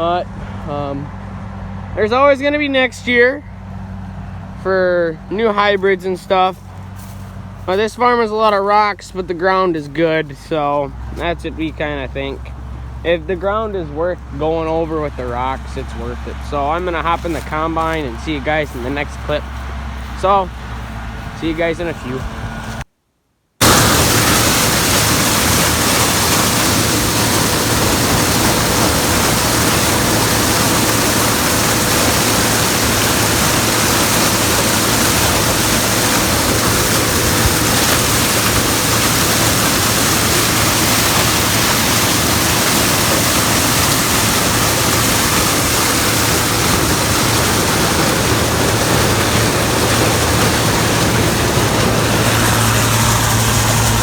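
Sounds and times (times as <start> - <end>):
combine harvester running: 0.0 - 22.9, 23.6 - 54.0.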